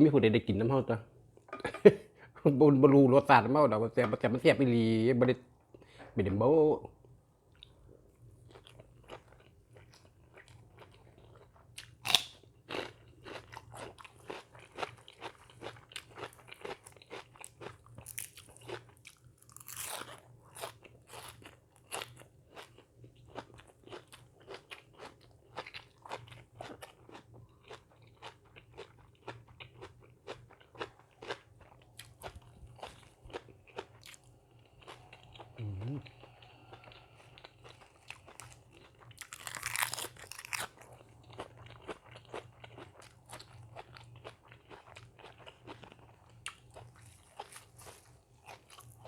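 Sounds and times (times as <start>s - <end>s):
person chewing crunchy food: 8.4s - 49.0s.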